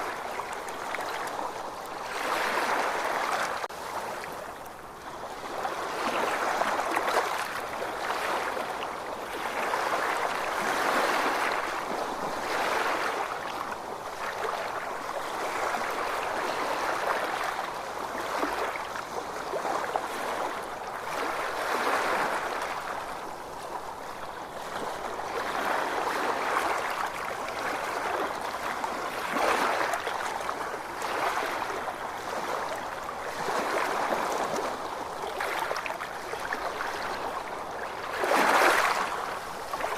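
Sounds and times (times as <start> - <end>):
small ocean waves washing: 0.0 - 39.9.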